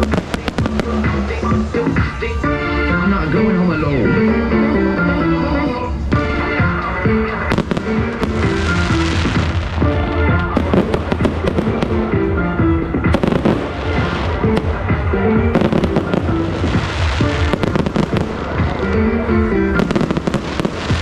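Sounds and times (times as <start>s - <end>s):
fireworks bursting and crackling: 0.0s - 2.4s, 6.0s - 21.0s
loud music: 0.0s - 21.0s.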